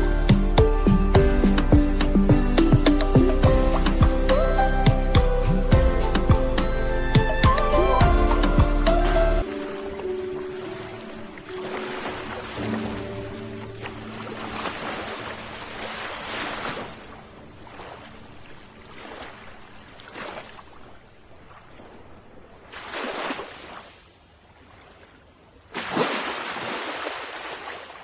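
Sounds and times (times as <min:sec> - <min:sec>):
ocean waves washing in: 0:01.6 - 0:28.0.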